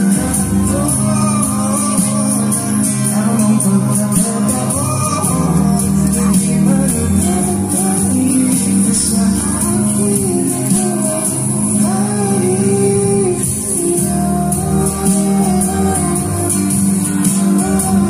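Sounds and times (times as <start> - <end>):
acoustic guitar: 0.0 - 18.0
man singing: 0.0 - 18.0.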